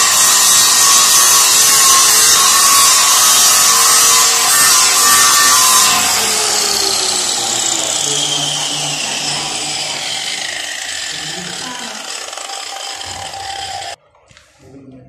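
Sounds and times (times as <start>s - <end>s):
angle grinder spinning down: 0.0s - 14.0s.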